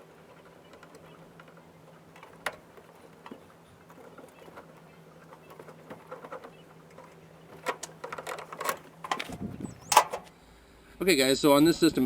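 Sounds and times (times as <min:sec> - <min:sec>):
light clicks and knocks: 0:00.0 - 0:10.3
faint steady hum: 0:00.0 - 0:12.0.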